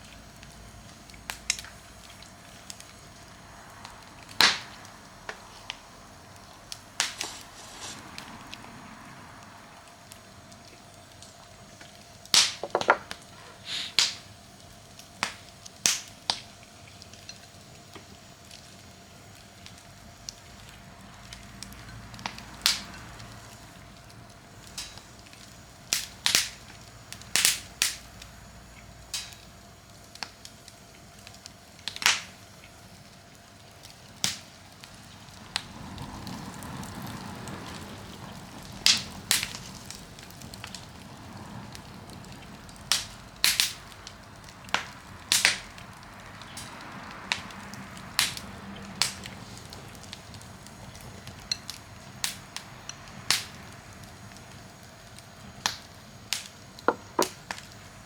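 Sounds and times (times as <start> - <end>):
campfire crackling: 0.0 - 58.0
soft rushing hiss of fire: 0.0 - 58.0
sharp pops from burning wood: 0.1 - 8.7, 10.1 - 58.0.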